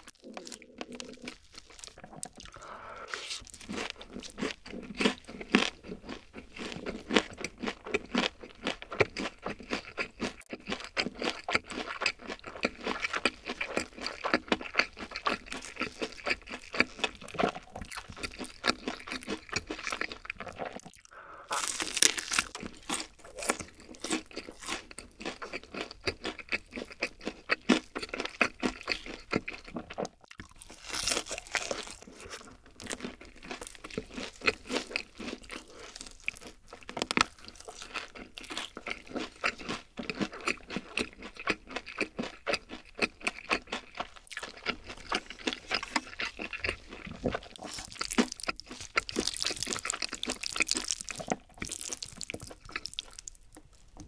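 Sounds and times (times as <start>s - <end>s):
chewing crispy fried chicken: 0.0s - 54.0s.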